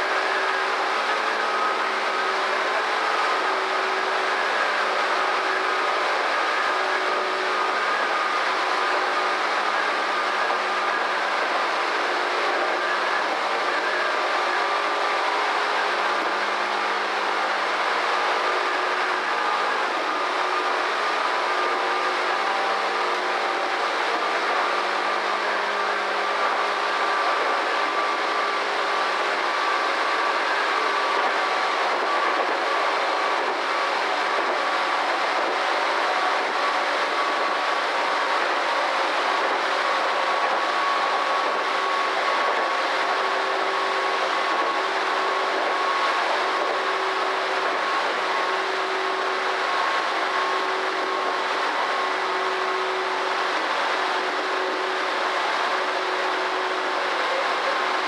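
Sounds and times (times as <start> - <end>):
faint steady whine: 0.0 - 58.0.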